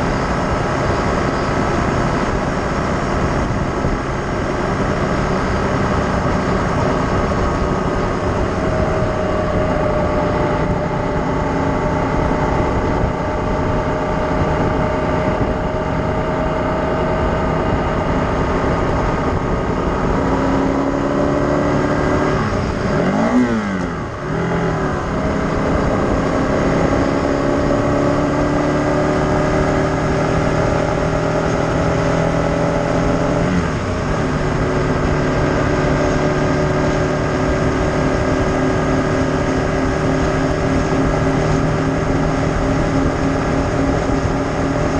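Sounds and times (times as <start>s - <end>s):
road noise: 0.0s - 44.9s
vehicle engine running: 0.0s - 44.9s.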